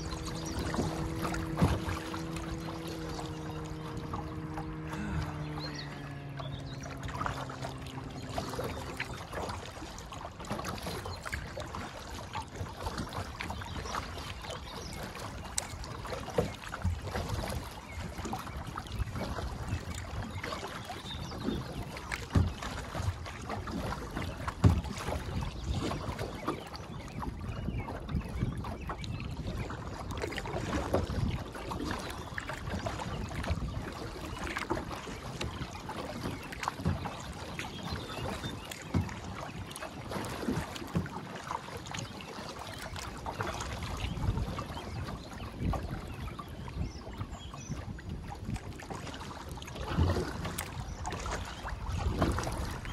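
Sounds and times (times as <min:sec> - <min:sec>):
paddle splashes: 0:00.0 - 0:52.9
water lapping around kayak: 0:00.0 - 0:52.9
wind on microphone: 0:00.0 - 0:52.9.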